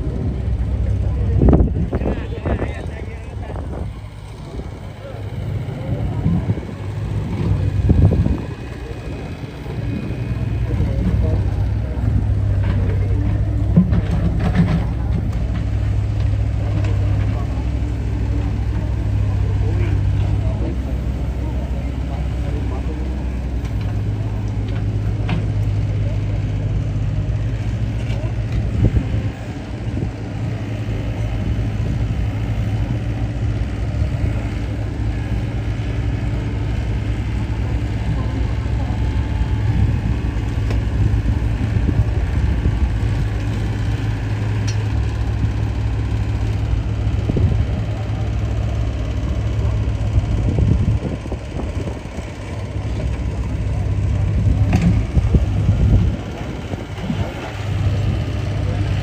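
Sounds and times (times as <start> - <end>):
engine humming steadily: 0.0 - 59.0
faint voices: 0.0 - 59.0.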